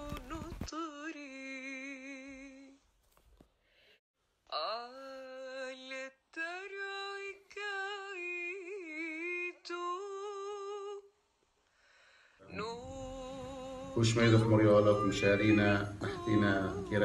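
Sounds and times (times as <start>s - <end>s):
person singing unaccompanied: 0.0s - 2.8s, 4.5s - 11.1s, 12.4s - 17.0s.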